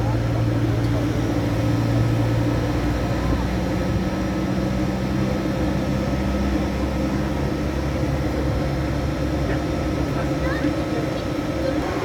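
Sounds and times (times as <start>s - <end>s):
locomotive engine hum: 0.0s - 12.0s.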